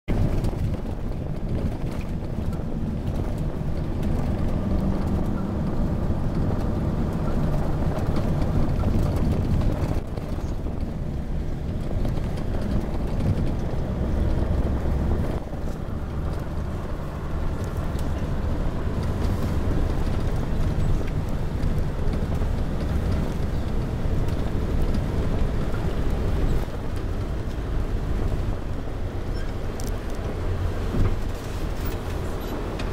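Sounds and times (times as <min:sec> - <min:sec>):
bus engine and gravel road rumble: 0:00.0 - 0:32.9.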